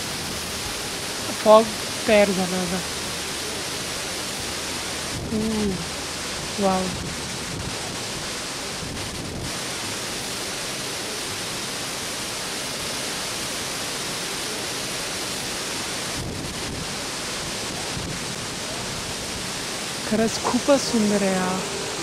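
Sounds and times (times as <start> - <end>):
roar of waterfall: 0.0 - 22.0.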